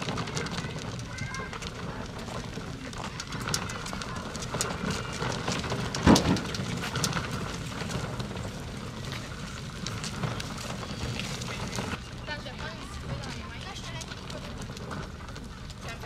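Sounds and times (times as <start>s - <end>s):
footsteps on gravel: 0.0s - 16.0s
wheels crunching on gravel: 0.0s - 16.0s.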